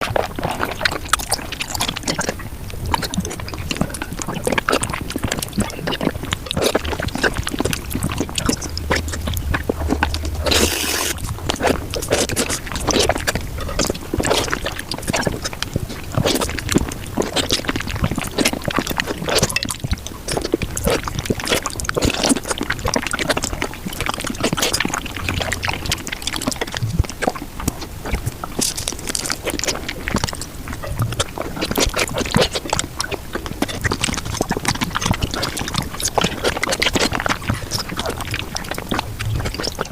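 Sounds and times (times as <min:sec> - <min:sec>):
wet eating squelches and slurps: 0:00.0 - 0:39.9.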